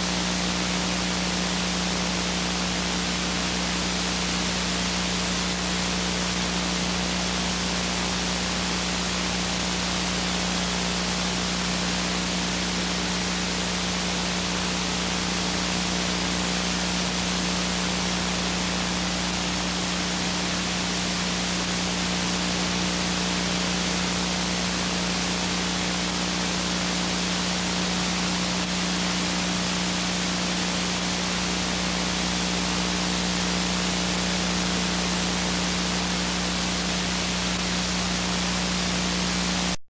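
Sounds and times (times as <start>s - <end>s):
static hiss: 0.0s - 39.8s.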